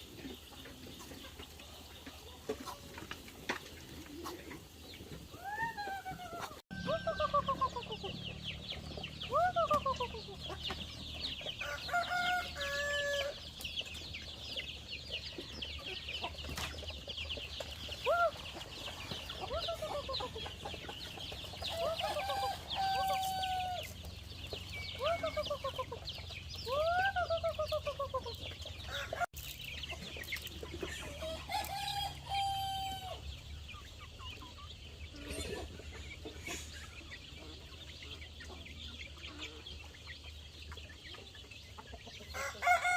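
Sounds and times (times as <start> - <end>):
chickens squawking: 0.0 - 42.9.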